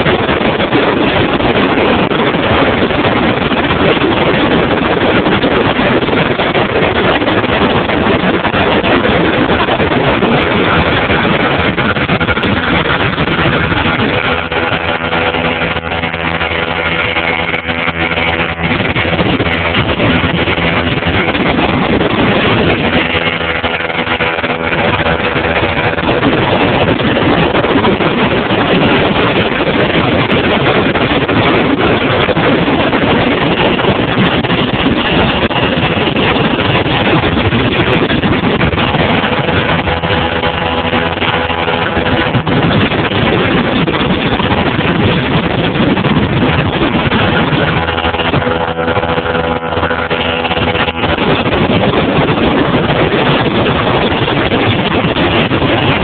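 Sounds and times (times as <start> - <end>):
motorboat engine running: 0.0 - 56.0
wind and water rushing: 0.0 - 56.0.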